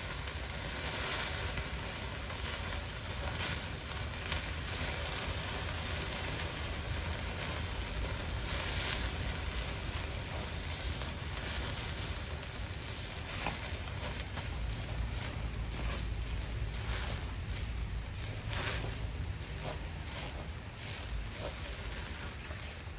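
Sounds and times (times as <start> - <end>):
meat sizzling on a grill: 0.0 - 22.9.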